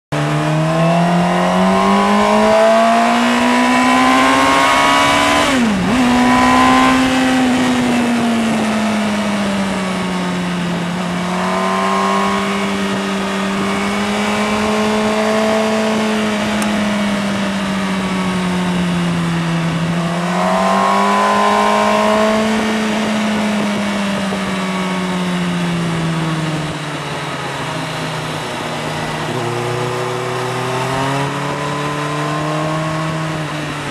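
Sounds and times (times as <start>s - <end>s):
motorcycle engine: 0.1s - 33.9s.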